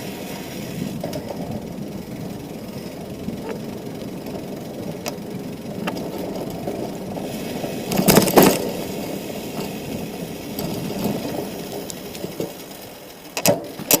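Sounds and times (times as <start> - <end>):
bicycle clattering jolt: 0.0 - 14.0
bicycle tyres rumbling: 0.0 - 14.0
chain and frame rattling: 0.8 - 14.0.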